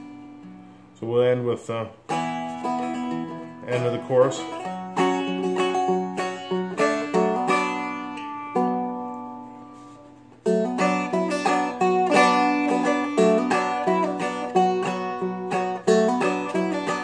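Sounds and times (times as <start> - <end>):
plucked dulcimer melody: 2.1 - 17.0.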